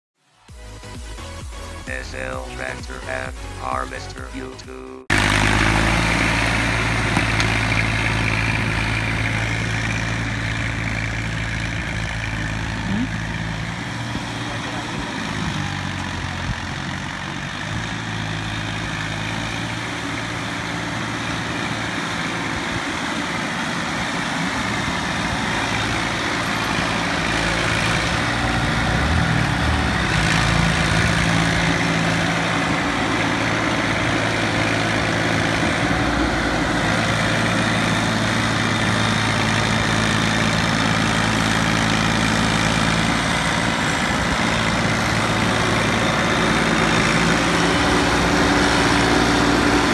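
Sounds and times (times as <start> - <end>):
tractor diesel engine running: 0.3 - 49.9.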